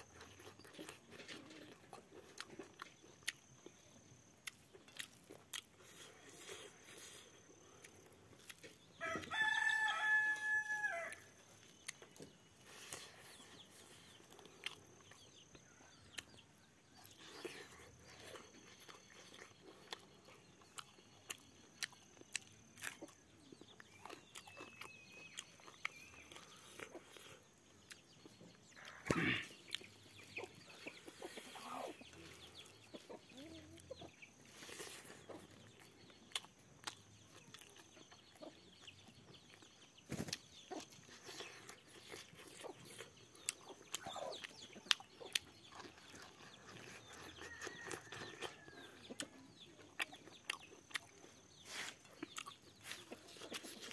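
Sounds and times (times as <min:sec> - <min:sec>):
chickens clucking: 0:00.0 - 0:09.3, 0:11.5 - 0:53.9
person chewing and lip smacking: 0:00.0 - 0:09.3, 0:11.1 - 0:53.9.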